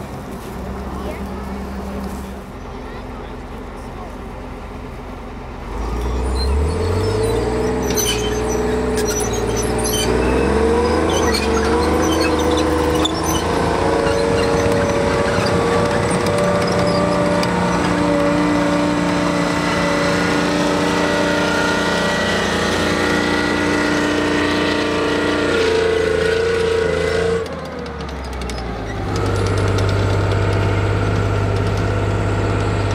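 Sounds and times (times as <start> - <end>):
tank engine running: 0.0 - 32.9.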